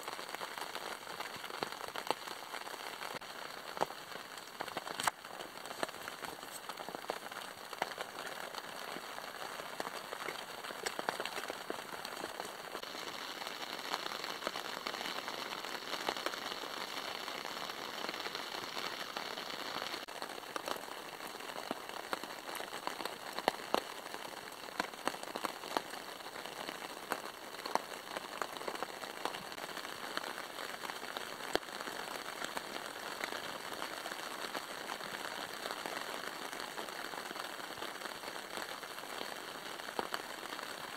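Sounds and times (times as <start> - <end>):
rain pattering on a tarp: 0.0 - 40.9.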